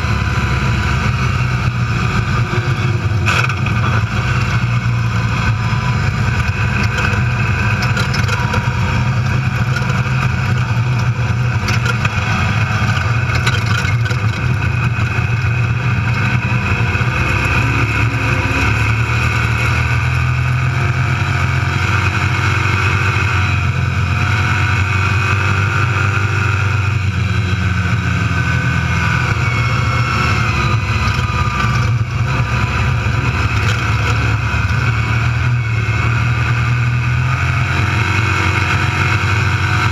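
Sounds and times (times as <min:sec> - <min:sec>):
race car engine drone: 0:00.0 - 0:39.9
road and wind noise: 0:00.0 - 0:39.9.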